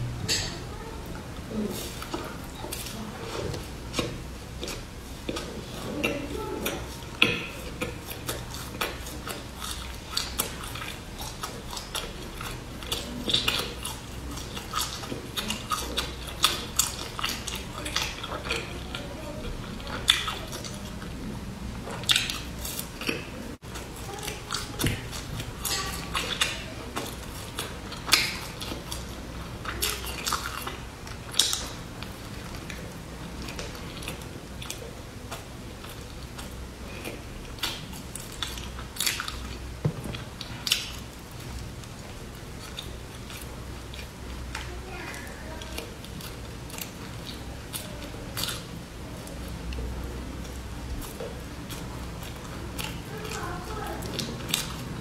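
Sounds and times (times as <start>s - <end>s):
quiet chewing: 0.0s - 55.0s.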